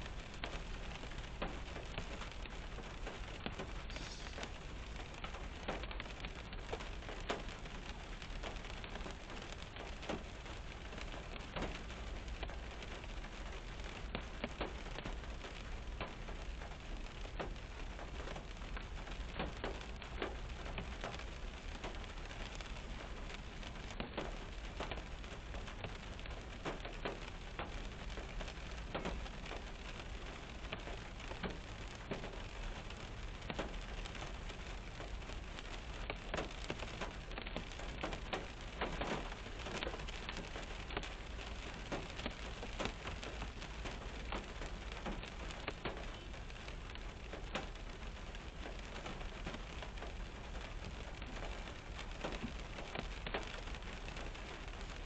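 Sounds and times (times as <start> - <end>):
rain on car roof: 0.0 - 55.0.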